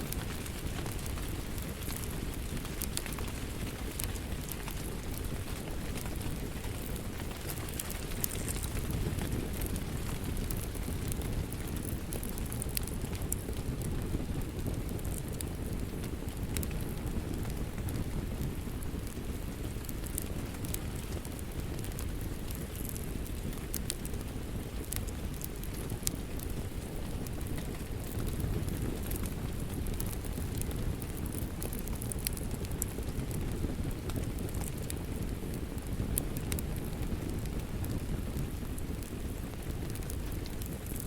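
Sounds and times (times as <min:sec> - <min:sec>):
steady rain: 0:00.0 - 0:41.0
wood fire crackling: 0:00.0 - 0:41.0.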